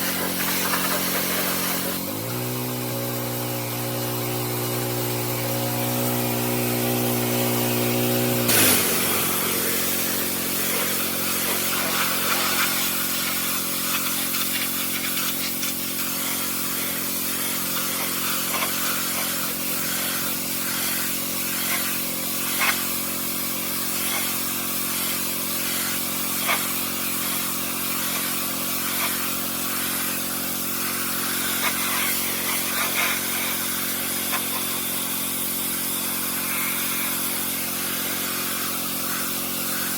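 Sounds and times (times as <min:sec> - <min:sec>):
water spray hissing: 0:00.0 - 0:02.5, 0:04.3 - 0:39.9
pressure washer motor running: 0:00.0 - 0:39.9.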